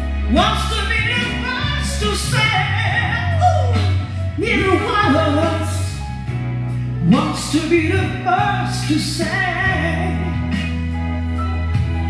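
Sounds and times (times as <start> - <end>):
electric keyboard sustained chords: 0.0 - 12.0.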